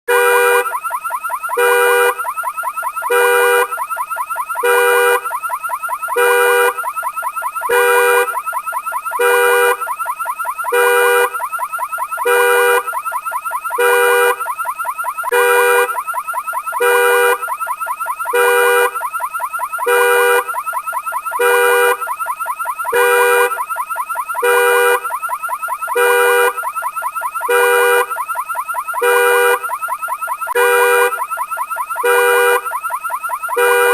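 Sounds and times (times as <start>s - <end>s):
car alarm low blasts: 0.1s - 33.9s
car alarm warbling tone: 0.1s - 33.9s.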